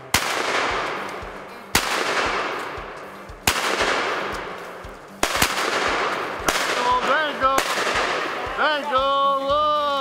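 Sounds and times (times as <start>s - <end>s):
shotgun blasts echoing: 0.0s - 8.6s.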